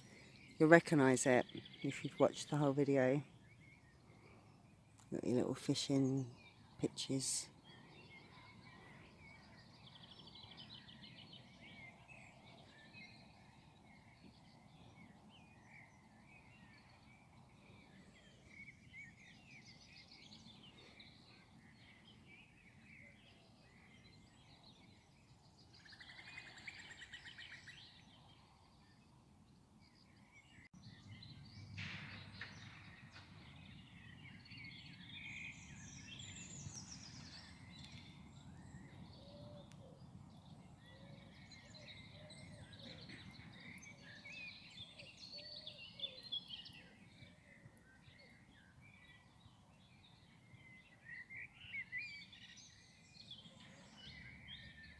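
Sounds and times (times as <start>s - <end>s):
small birds chirping and trilling: 0.0s - 54.9s.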